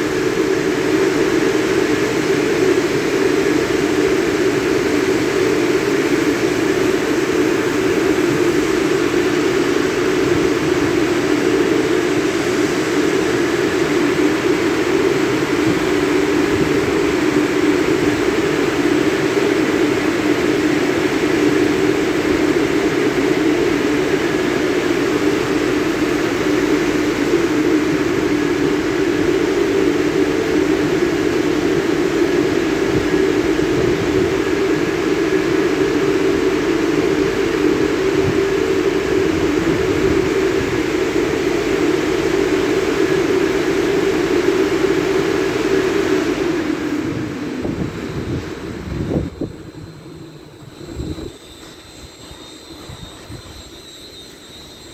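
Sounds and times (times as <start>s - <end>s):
drying blowers rushing air: 0.0s - 54.9s.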